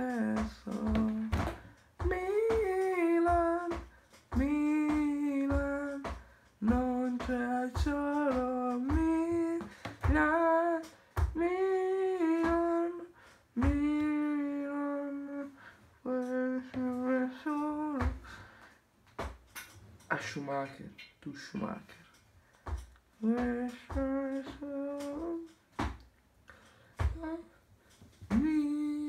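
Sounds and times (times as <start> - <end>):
person singing wordless tune: 0.0 - 18.7, 23.2 - 27.6, 28.2 - 29.0.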